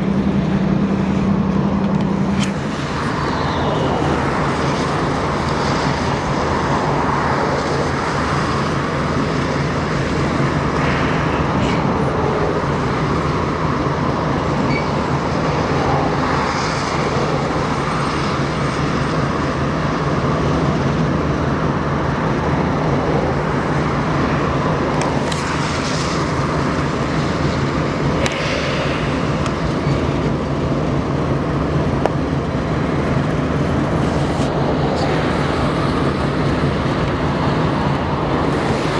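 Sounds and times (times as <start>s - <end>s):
engine rumble: 0.0s - 38.9s
low hum: 0.0s - 38.9s
traffic noise: 0.0s - 38.9s.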